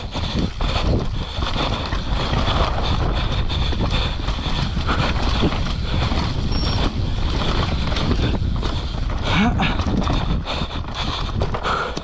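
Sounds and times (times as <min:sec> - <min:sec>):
bike tyre noise: 0:00.0 - 0:12.0
wind buffeting microphone: 0:00.0 - 0:12.0.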